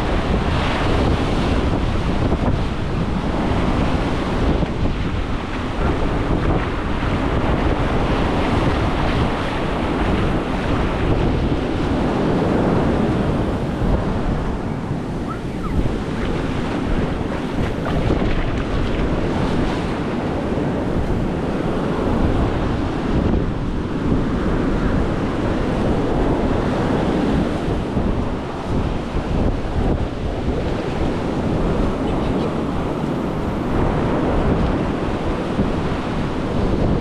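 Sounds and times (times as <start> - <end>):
ocean surf breaking on sand: 0.0 - 37.0
wind buffeting microphone: 0.0 - 37.0.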